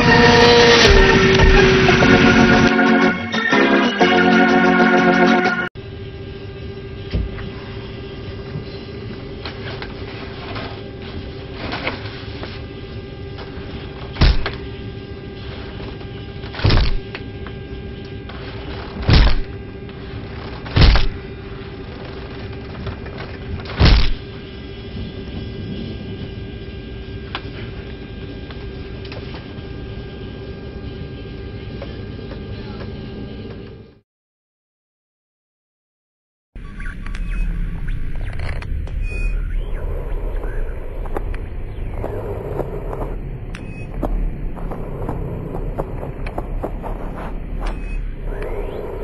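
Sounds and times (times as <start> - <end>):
airliner cabin drone: 0.0 - 34.0, 36.6 - 49.0
steady hum: 0.0 - 34.0, 36.6 - 49.0.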